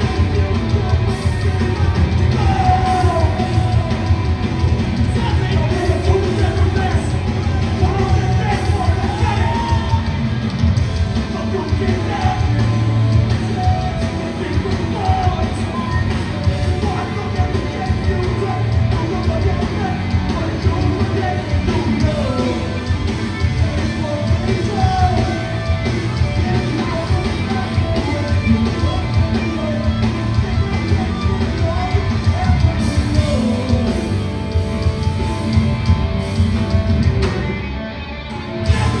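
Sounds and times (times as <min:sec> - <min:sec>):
yelled and sung vocals: 0:00.0 - 0:35.2, 0:38.5 - 0:39.0
distorted guitars: 0:00.0 - 0:39.0
loud live rock band: 0:00.0 - 0:39.0.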